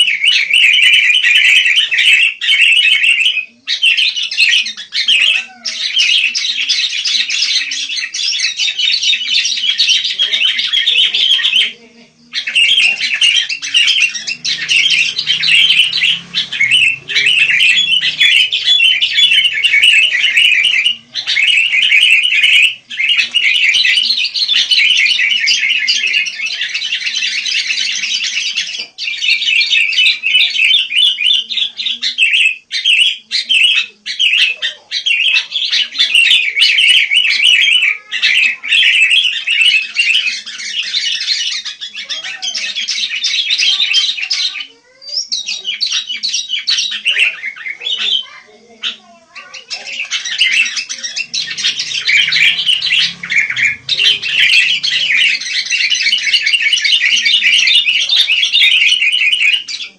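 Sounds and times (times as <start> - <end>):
bulbul chirping and chattering: 0.0 - 59.9.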